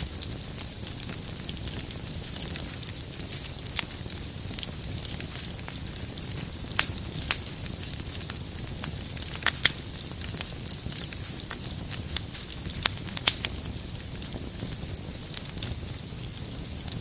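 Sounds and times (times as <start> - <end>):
fire crackles and pops: 0.0 - 17.0
wood fire rumble and hiss: 0.0 - 17.0.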